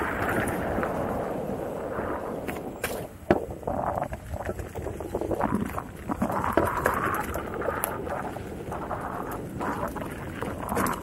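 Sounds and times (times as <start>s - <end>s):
tyre and ride noise: 0.0s - 11.0s
wind buffeting microphone: 0.0s - 11.0s.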